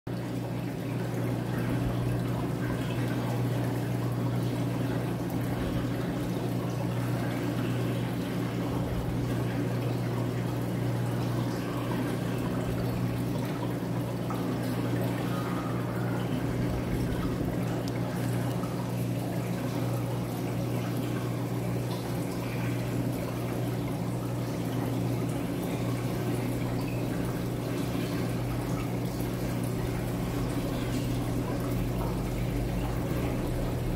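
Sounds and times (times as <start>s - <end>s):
low pump hum: 0.1s - 33.9s
water running and pouring: 0.1s - 33.9s.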